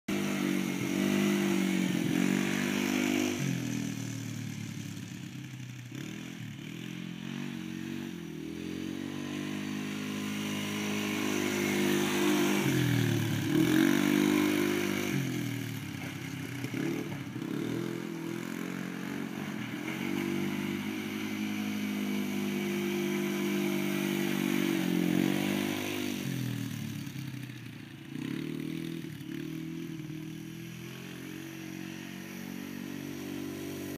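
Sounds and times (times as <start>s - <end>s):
atv engine revving: 0.1s - 33.9s.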